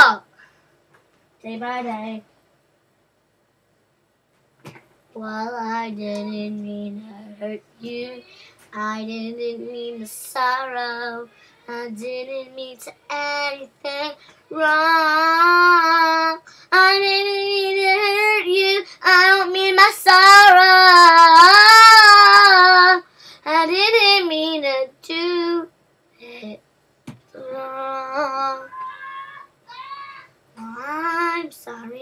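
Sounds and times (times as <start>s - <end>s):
girl singing unaccompanied: 0.0s - 0.3s, 1.4s - 2.3s, 5.1s - 26.6s, 27.3s - 32.0s.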